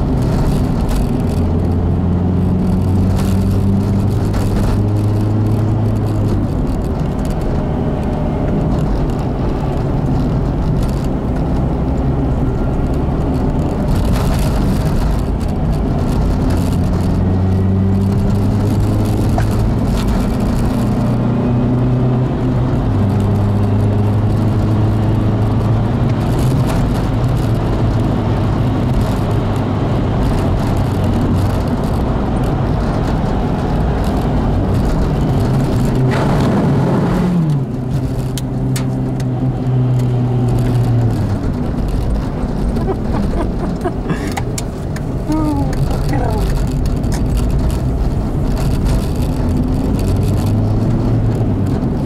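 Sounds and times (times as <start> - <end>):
car engine drone: 0.0 - 52.0
car rattles: 0.0 - 52.0
tyre and road noise: 0.0 - 52.0.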